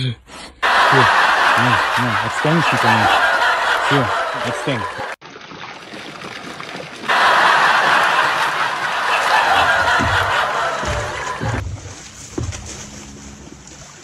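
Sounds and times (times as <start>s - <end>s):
water splashing and sloshing: 1.4s - 14.0s.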